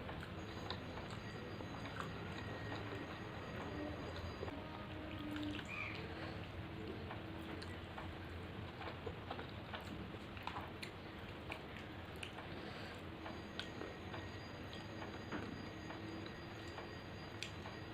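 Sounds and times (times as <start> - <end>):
chewing with mouth clicks: 0.1 - 15.5.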